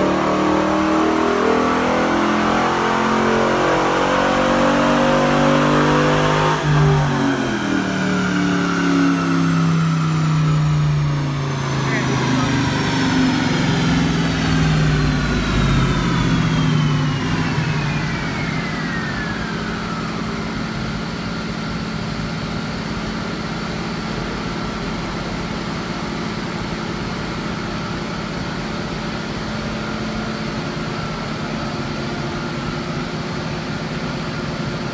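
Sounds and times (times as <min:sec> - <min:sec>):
dyno rollers whining: 0:00.0 - 0:34.9
car engine idling: 0:06.6 - 0:34.9.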